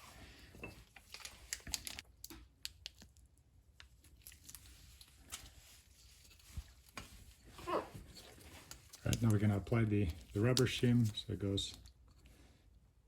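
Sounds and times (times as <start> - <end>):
small clicks and crinkling: 0.9 - 7.2, 8.1 - 12.4.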